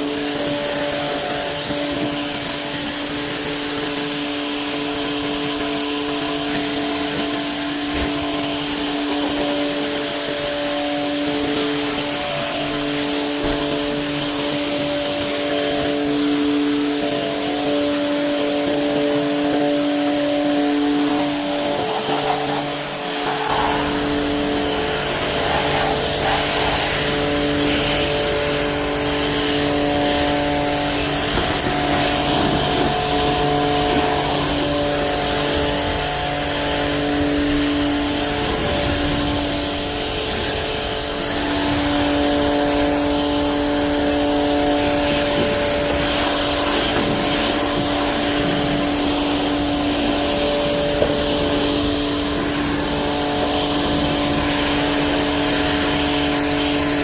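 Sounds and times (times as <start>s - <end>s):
pressure washer pump hum: 0.0s - 57.0s
water spray hissing: 0.0s - 57.0s.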